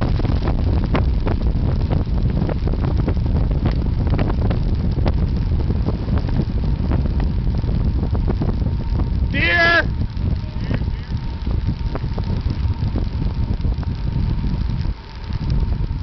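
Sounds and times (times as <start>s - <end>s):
small clicks and rattles: 0.0s - 16.0s
wind buffeting microphone: 0.0s - 16.0s.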